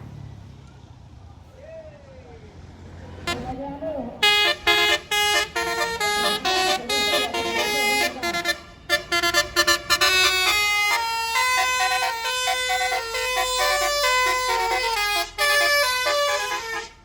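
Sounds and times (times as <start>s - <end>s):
musical bus horn melody: 3.3s - 17.0s.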